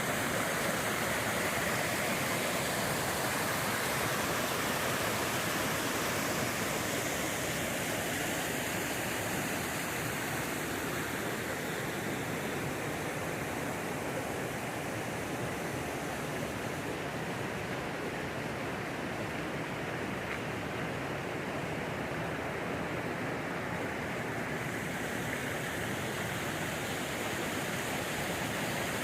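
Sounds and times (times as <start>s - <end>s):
rushing creek water: 0.0s - 29.0s.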